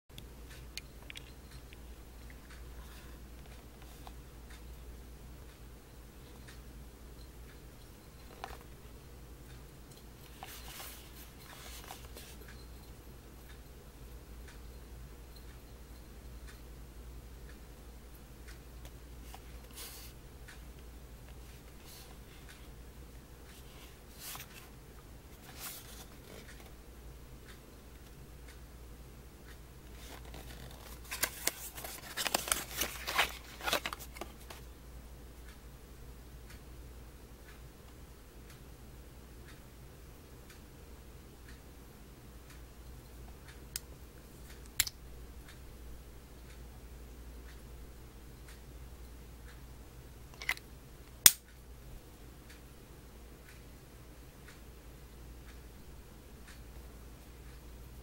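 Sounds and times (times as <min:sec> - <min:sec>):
steady low hum: 0:00.1 - 0:58.0.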